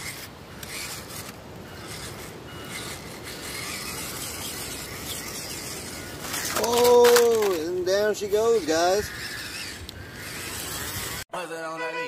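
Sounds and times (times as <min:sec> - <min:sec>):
scraping and rustling in mud: 0:00.0 - 0:11.2
toy truck motor whirring: 0:00.0 - 0:11.3.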